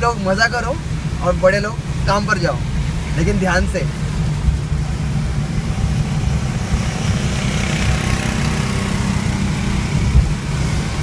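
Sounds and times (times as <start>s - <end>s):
engine and tyre rumble: 0.0s - 11.0s
wet road spray and rain hiss: 0.0s - 11.0s.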